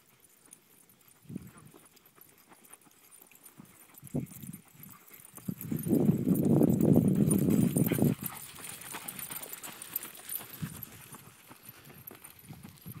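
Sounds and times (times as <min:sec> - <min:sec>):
dog paws ticking: 0:00.0 - 0:13.0
footsteps of person running: 0:00.6 - 0:13.0.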